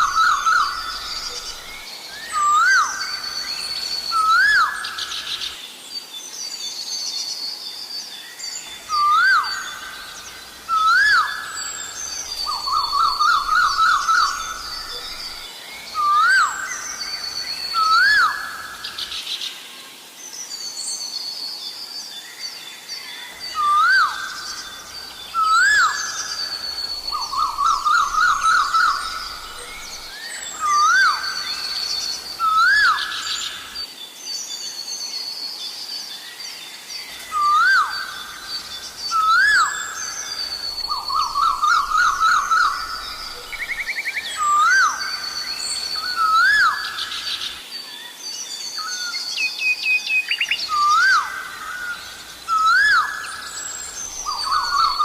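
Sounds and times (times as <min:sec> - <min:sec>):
small birds chirping: 0:00.0 - 0:19.3, 0:20.4 - 0:55.0.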